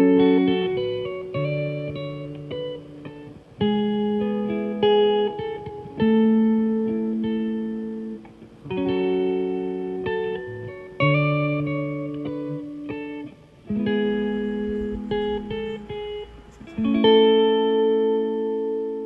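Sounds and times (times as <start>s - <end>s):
slow plucked guitar chords: 0.0s - 17.7s.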